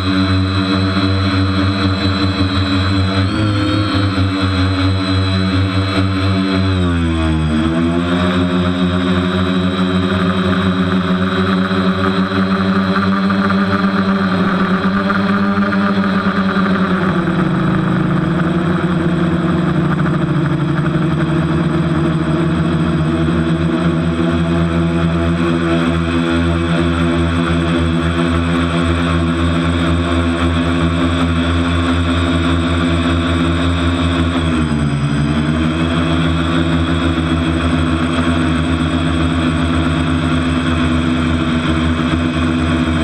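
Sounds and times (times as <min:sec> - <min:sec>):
quadcopter motors droning whine: 0:00.0 - 0:43.0.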